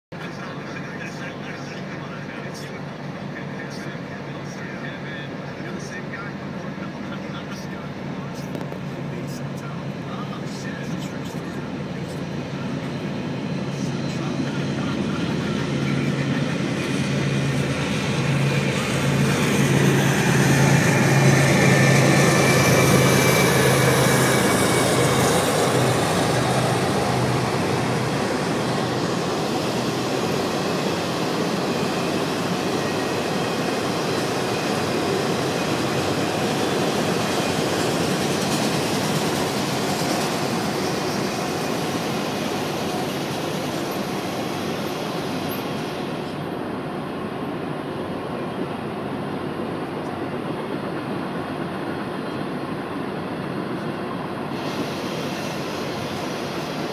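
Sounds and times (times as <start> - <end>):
locomotive engine drone: 0.2 - 56.9.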